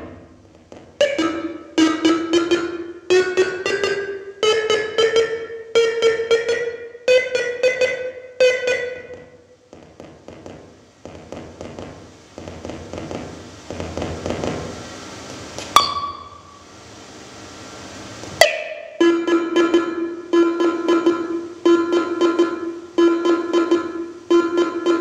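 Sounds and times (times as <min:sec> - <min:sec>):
rhythmic pinging clicks: 0:00.0 - 0:14.6, 0:18.4 - 0:25.0
rough electronic noise: 0:00.0 - 0:25.0
steady held electronic tone: 0:00.0 - 0:25.0.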